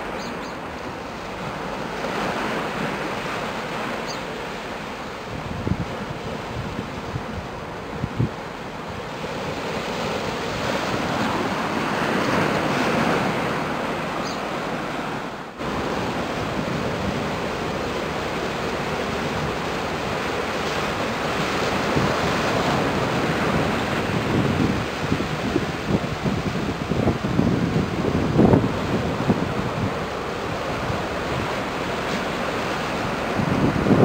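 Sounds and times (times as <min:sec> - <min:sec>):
water washing at shore: 0:00.0 - 0:34.0
wind on microphone: 0:05.2 - 0:14.4, 0:15.6 - 0:34.0.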